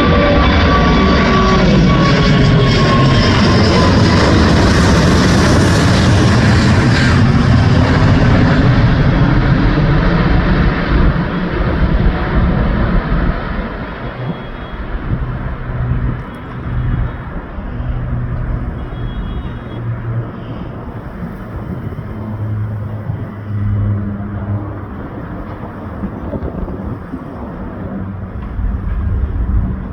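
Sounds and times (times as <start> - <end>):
jet engines roaring: 0.0 - 29.9.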